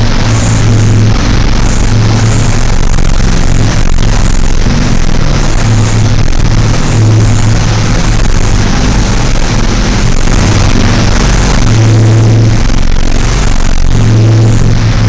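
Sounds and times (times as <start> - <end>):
dirt bike engine in tunnel: 0.0 - 15.0.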